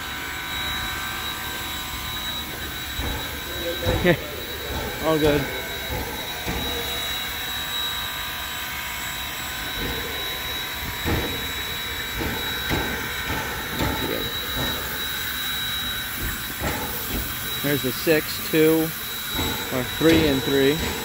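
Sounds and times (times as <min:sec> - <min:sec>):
high whine: 0:00.0 - 0:21.0
steam locomotive hissing: 0:00.0 - 0:21.0.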